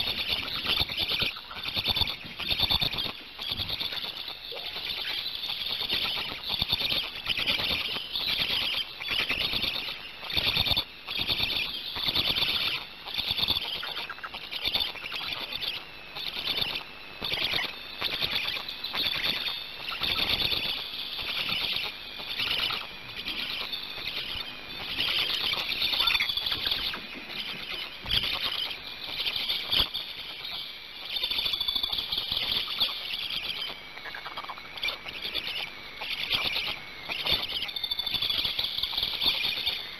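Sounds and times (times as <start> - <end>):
stork chicks squeaky chatter: 0.0 - 39.9.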